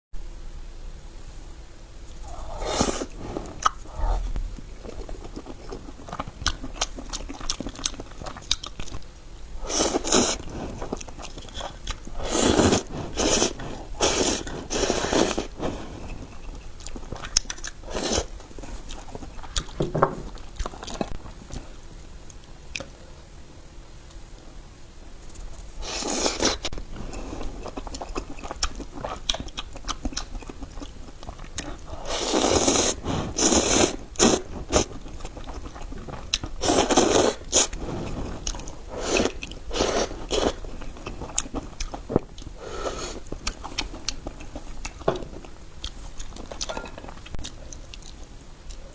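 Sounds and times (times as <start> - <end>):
biting and chewing oysters: 2.1 - 22.9, 25.7 - 48.9.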